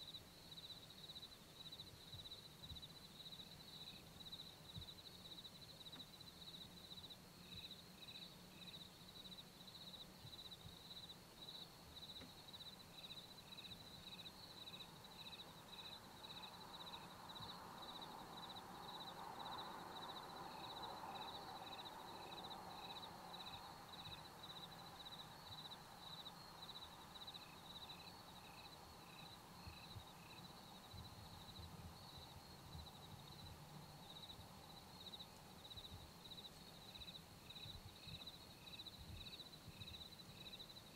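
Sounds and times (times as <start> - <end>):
insect chirping: 0.0 - 40.9.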